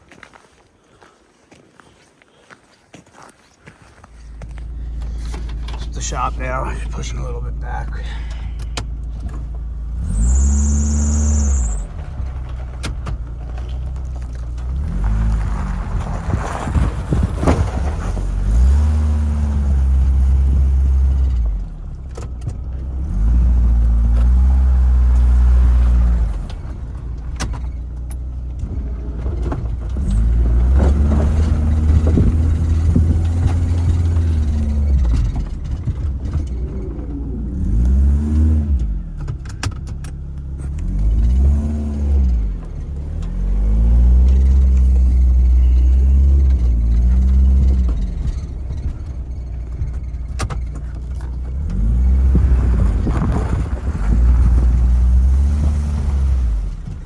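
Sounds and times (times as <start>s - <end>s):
car engine revving: 4.3s - 57.0s.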